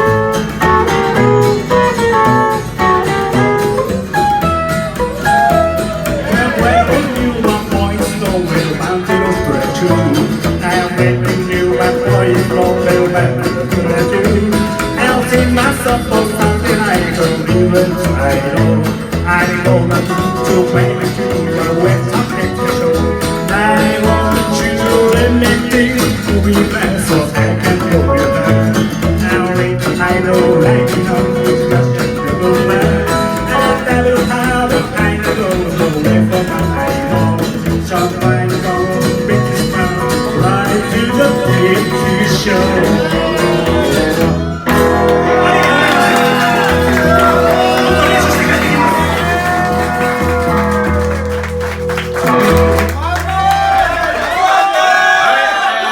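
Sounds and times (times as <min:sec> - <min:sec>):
twangy guitar: 0:00.0 - 0:54.0
live band playing: 0:00.0 - 0:54.1
bass line: 0:00.0 - 0:54.4.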